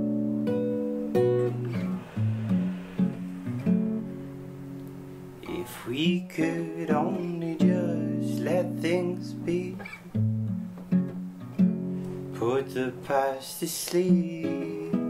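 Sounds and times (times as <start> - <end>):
fingerpicked acoustic guitar chords: 0.0 - 15.0.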